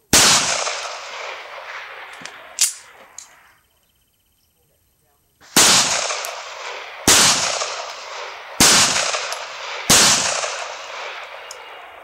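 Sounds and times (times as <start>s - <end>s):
pistol shots echoing: 0.1s - 3.4s, 5.4s - 12.0s.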